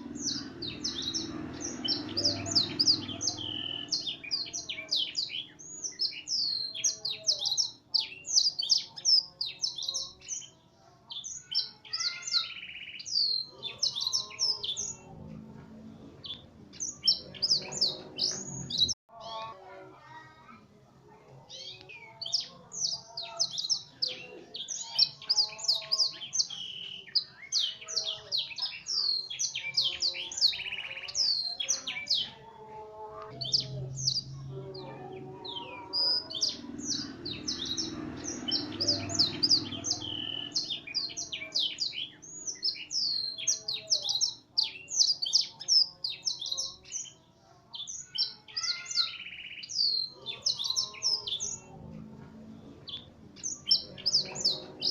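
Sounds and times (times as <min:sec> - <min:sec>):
canary singing: 0:00.0 - 0:20.2, 0:21.4 - 0:54.9.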